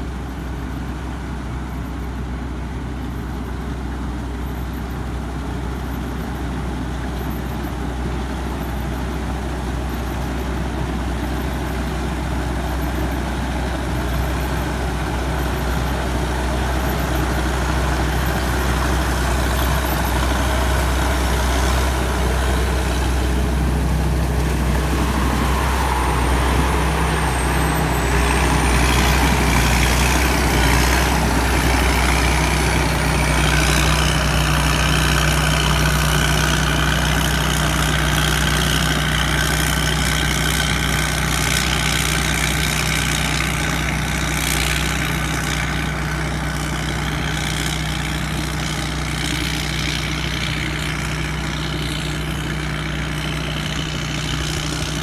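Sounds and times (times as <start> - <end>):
combine harvester running: 0.0 - 55.0
diesel engine running: 0.0 - 55.0.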